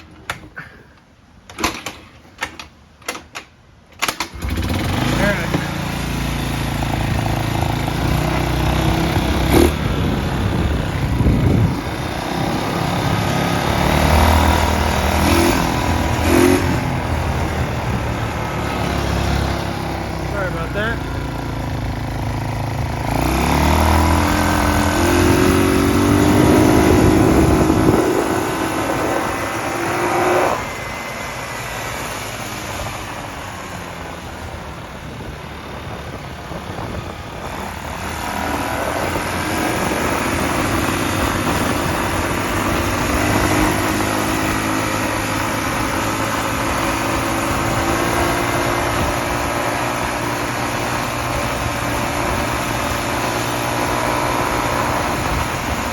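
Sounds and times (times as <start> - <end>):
quad engine accelerating: 4.0 - 55.9.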